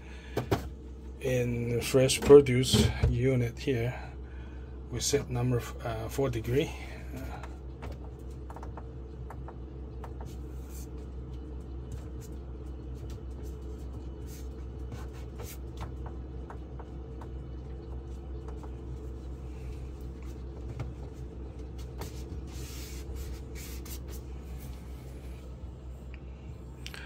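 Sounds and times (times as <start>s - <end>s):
refrigerator humming: 0.0s - 27.0s.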